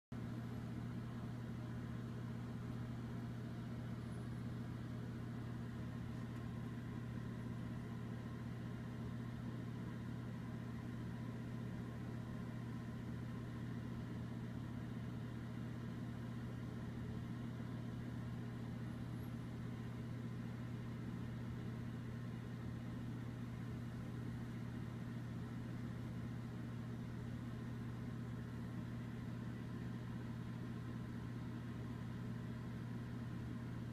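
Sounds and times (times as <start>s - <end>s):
steady low hum: 0.1s - 33.9s.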